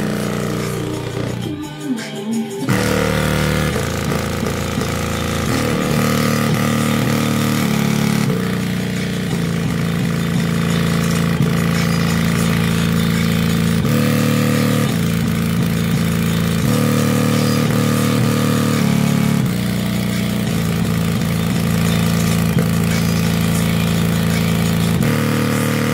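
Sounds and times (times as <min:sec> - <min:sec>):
bass-boosted music through speaker: 0:00.0 - 0:25.9.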